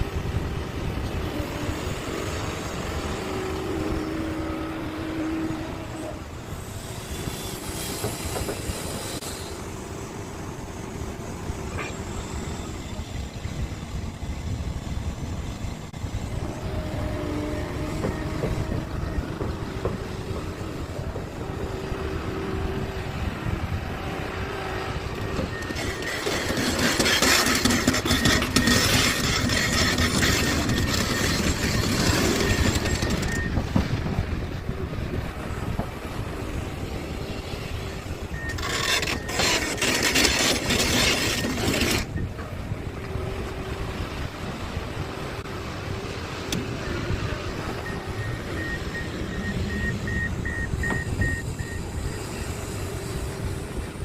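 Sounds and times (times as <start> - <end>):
excavator diesel rumble: 0.0 - 54.0
harsh mechanical noise: 0.0 - 54.0.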